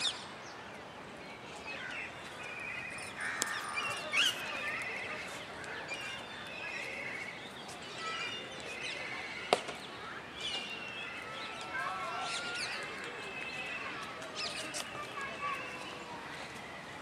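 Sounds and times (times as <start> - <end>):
open-air background noise: 0.0 - 17.0
birds chirping and calling: 1.5 - 16.6.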